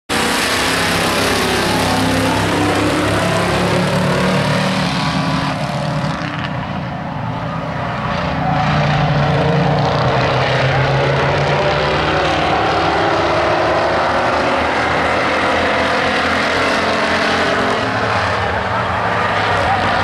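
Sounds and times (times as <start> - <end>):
race truck engines droning: 0.1 - 20.0.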